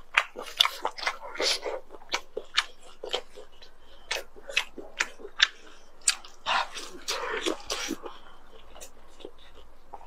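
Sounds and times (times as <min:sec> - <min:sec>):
mouth smacks: 0:00.0 - 0:10.0
person chewing food: 0:00.0 - 0:10.0.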